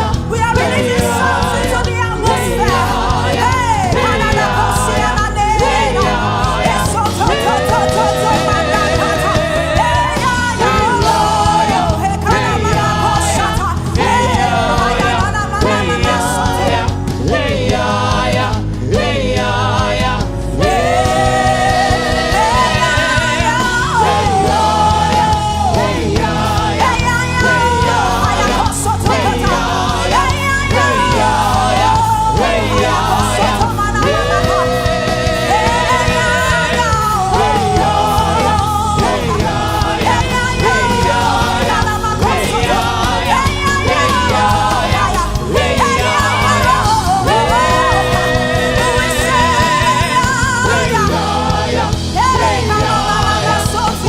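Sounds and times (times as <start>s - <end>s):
instrumental backing with bass: 0.0s - 54.0s
voices singing gospel: 0.0s - 54.0s.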